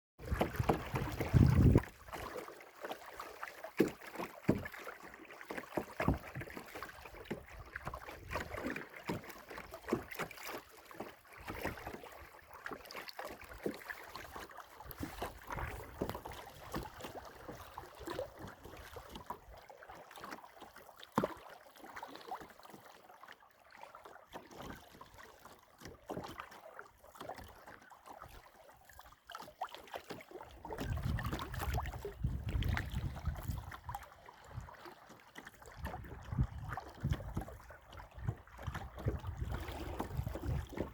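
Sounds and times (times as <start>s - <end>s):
paddle splashing water: 0.2s - 40.9s.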